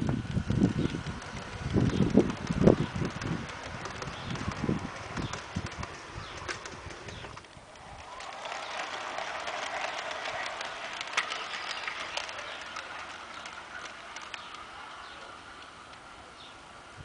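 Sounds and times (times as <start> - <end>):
wheels clicking over rail joints: 0.0 - 16.7
model train motor whirring: 0.0 - 16.8.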